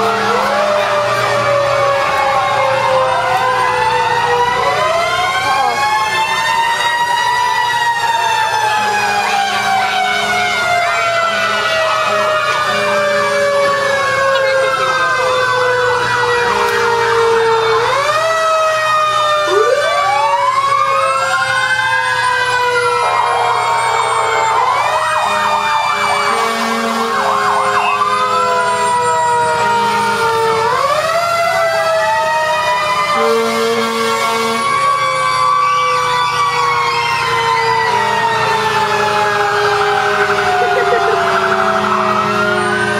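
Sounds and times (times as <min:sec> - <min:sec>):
fire truck sirens wailing: 0:00.0 - 0:42.9.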